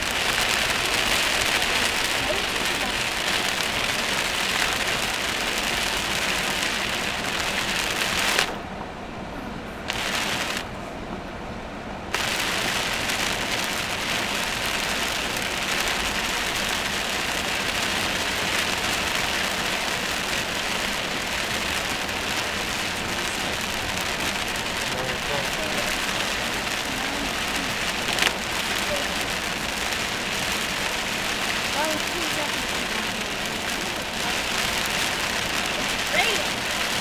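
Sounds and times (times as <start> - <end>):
heavy rain hitting a car: 0.0 - 9.2, 9.8 - 11.4, 12.0 - 37.0.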